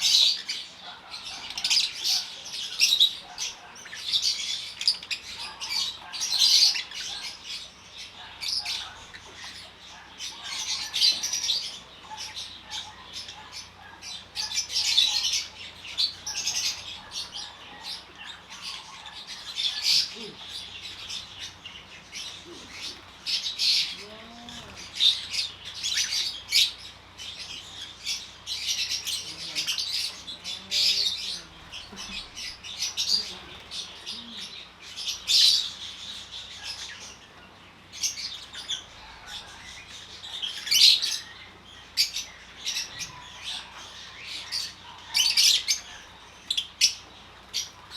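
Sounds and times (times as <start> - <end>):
parrots squawking: 0.0 - 37.2, 38.0 - 47.9.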